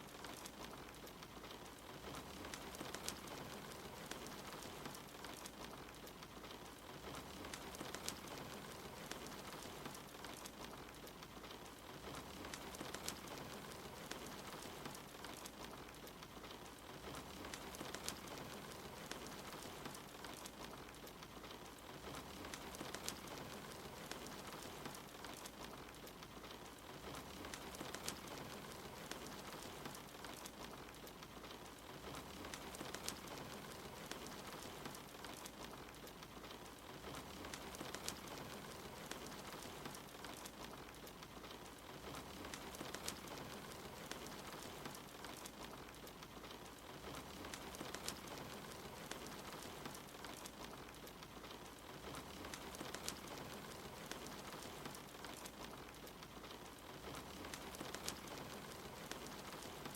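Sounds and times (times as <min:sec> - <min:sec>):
soft steady rain: 0:00.0 - 0:59.9
wood fire crackling: 0:00.0 - 0:59.9.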